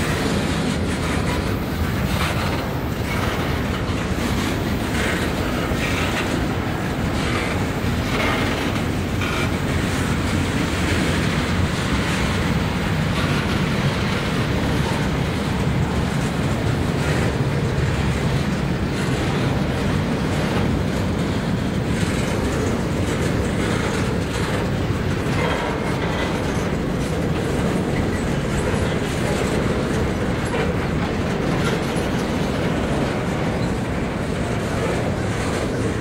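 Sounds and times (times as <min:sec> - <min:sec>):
freight train rumbling past: 0:00.0 - 0:36.0
wheels clicking on rails: 0:00.0 - 0:36.0.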